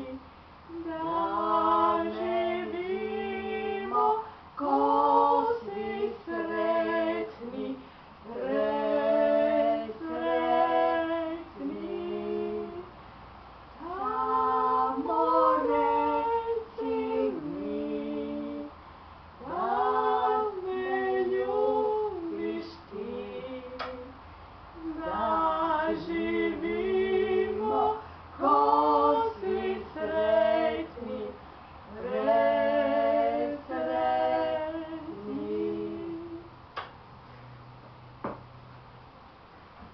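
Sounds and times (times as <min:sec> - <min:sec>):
two women singing unaccompanied: 0:00.0 - 0:36.9.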